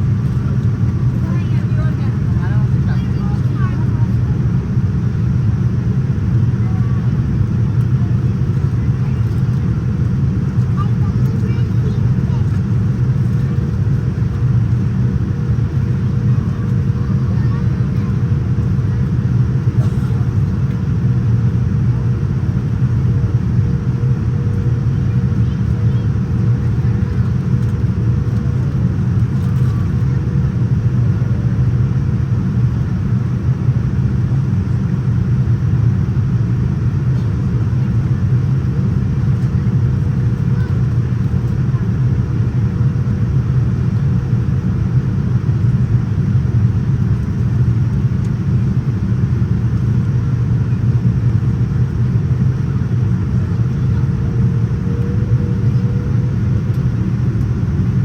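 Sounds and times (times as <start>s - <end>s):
airliner cabin rumble: 0.0s - 58.0s
faint steady hum: 0.0s - 58.0s.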